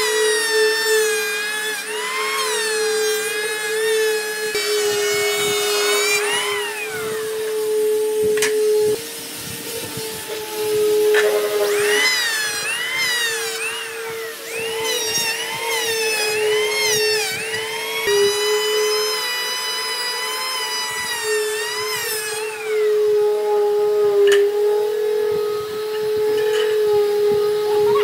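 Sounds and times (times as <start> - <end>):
power tool motor whining: 0.0 - 28.0.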